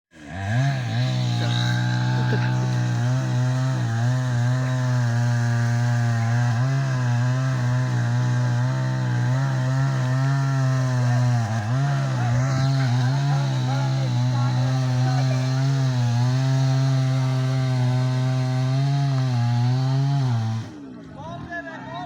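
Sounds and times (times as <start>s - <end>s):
chainsaw cutting a tree: 0.1s - 21.2s.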